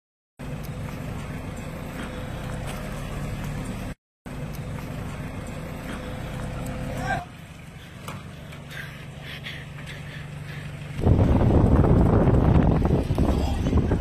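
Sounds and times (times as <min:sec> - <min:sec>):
vehicle engine pulling away: 0:00.4 - 0:14.0.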